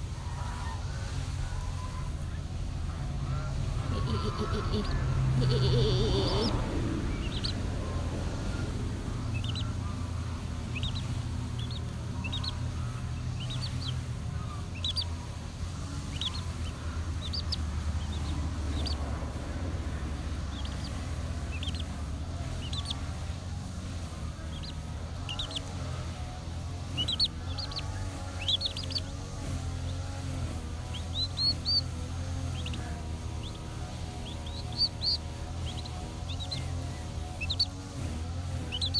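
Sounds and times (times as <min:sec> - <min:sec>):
chicks peeping: 0:00.0 - 0:38.9
low steady hum: 0:00.0 - 0:38.9.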